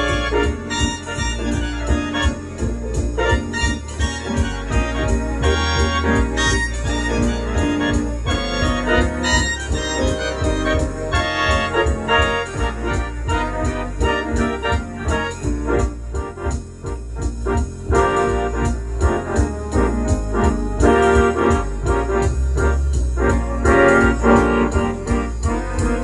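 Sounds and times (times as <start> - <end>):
electronic organ playing: 0.0 - 26.0.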